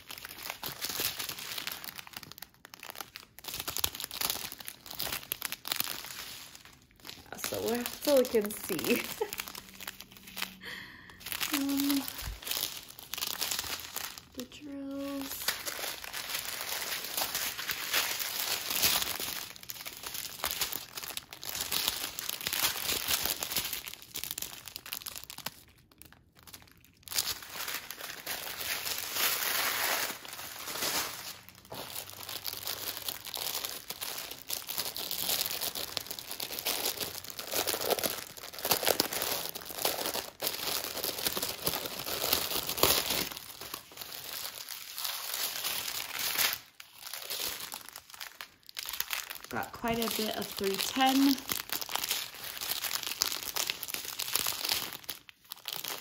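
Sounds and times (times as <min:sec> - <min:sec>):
plastic bags crinkling: 0:00.0 - 0:56.0.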